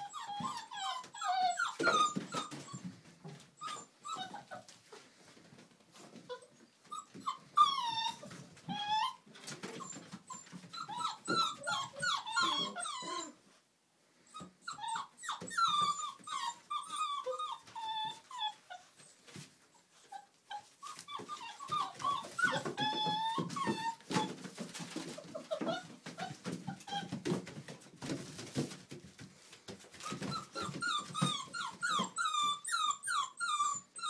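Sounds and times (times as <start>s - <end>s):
puppies yipping and whining: 0.0s - 13.6s, 14.2s - 29.0s, 29.7s - 34.0s.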